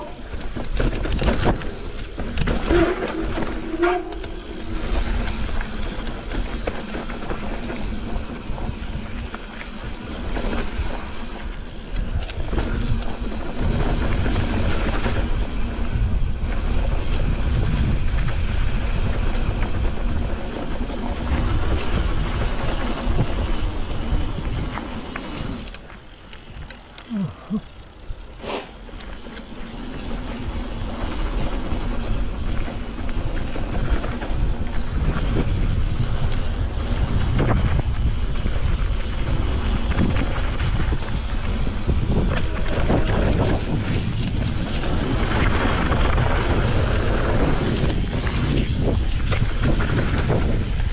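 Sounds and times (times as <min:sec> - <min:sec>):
wind buffeting microphone: 0:00.0 - 0:29.0, 0:29.6 - 0:50.9
bike rumbling on dirt trail: 0:00.0 - 0:50.9.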